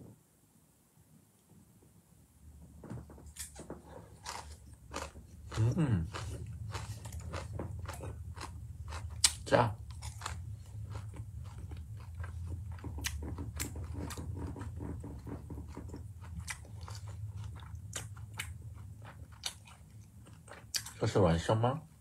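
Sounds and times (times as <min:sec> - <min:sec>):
low steady hum: 0:00.0 - 0:22.0
person chewing crunchy food: 0:03.4 - 0:21.0.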